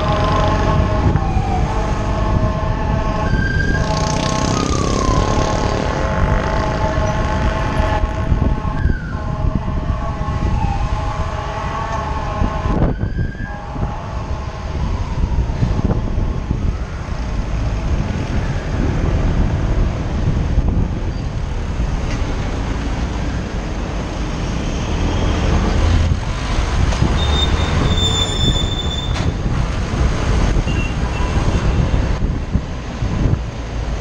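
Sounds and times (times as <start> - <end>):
vehicle whining over rumble: 0.0 - 34.0.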